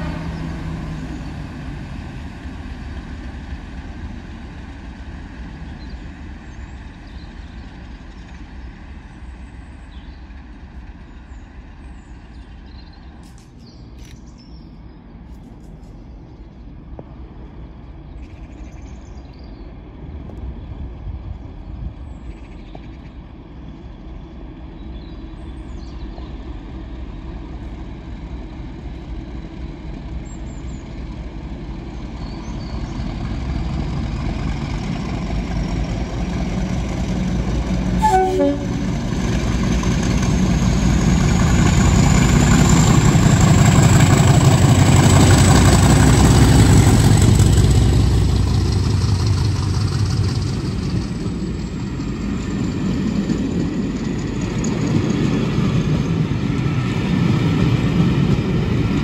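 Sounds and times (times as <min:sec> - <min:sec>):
distant diesel locomotive rumble: 0:00.0 - 0:59.0.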